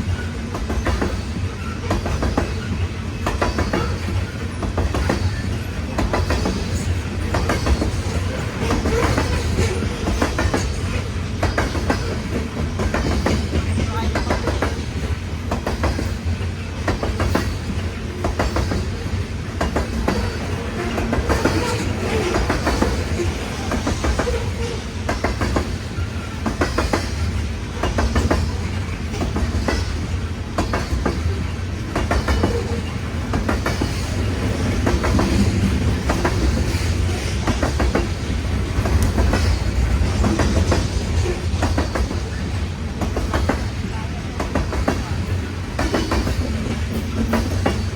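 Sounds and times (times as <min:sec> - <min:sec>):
freight train rumble: 0:00.0 - 0:47.9
train wheels clicking over rail joints: 0:00.0 - 0:47.9.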